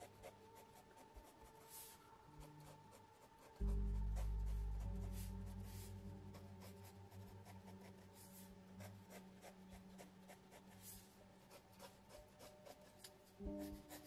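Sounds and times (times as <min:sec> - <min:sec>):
pencil scratching on paper: 0:00.0 - 0:14.0.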